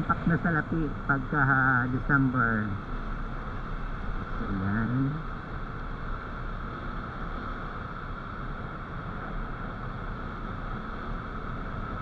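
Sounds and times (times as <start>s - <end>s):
motorcycle engine and tyre noise: 0.0s - 12.0s.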